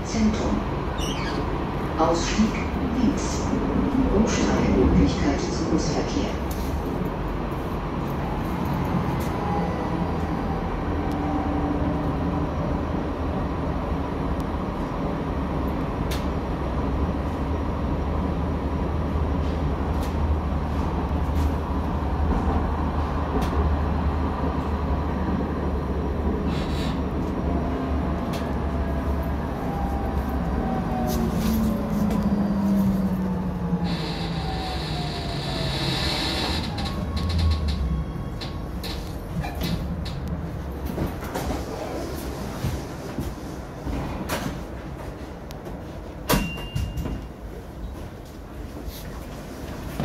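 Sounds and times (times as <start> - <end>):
tram rumbling on track: 0.0 - 50.0.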